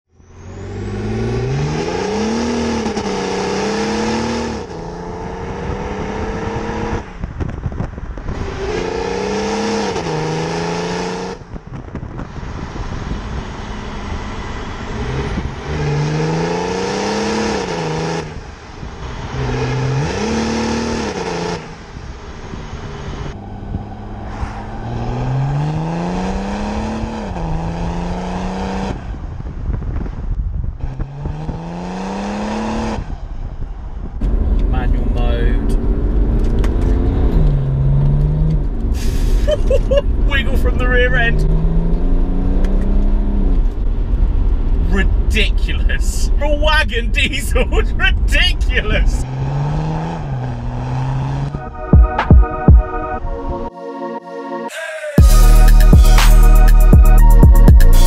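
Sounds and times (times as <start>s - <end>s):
wind and road noise: 0.1s - 54.0s
diesel engine accelerating hard: 0.2s - 51.6s.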